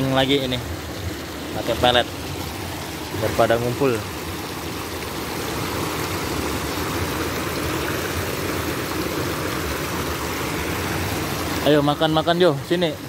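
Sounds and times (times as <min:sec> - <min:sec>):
water pouring into pond: 0:00.0 - 0:13.0.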